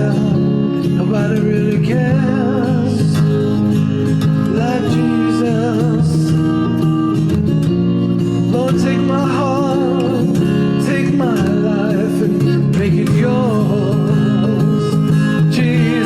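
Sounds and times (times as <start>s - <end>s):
acoustic guitar: 0.0s - 16.0s
person singing with vibrato: 0.0s - 16.0s.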